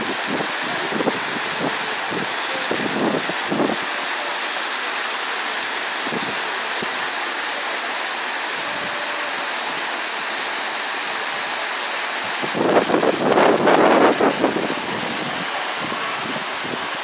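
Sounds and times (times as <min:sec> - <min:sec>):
rushing hiss of outdoor ambience: 0:00.0 - 0:17.0.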